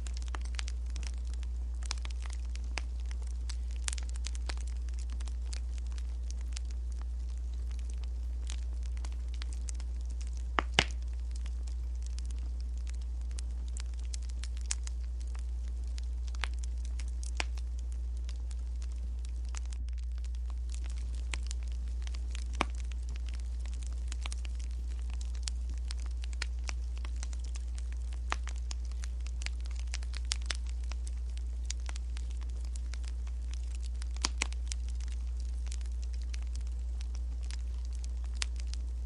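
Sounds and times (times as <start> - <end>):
steady low hum: 0.0 - 39.0
wood fire crackling: 0.0 - 39.0.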